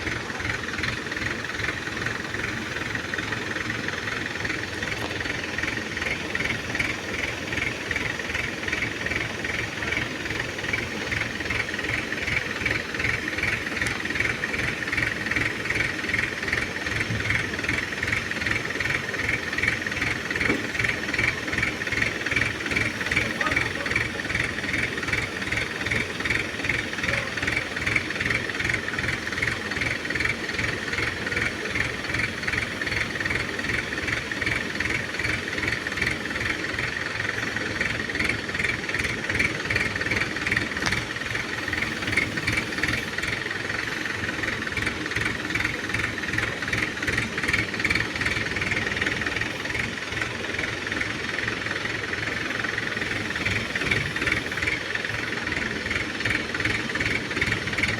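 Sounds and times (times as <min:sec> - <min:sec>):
diesel engine thrumming: 0:00.0 - 0:57.9
high pulsing whine: 0:00.0 - 0:57.9.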